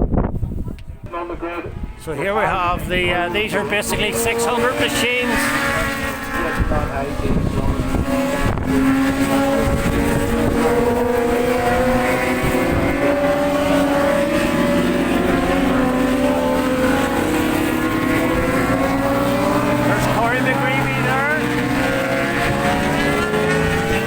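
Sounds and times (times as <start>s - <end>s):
wind buffeting microphone: 0.0s - 24.0s
motorcycle engines revving: 0.6s - 24.0s.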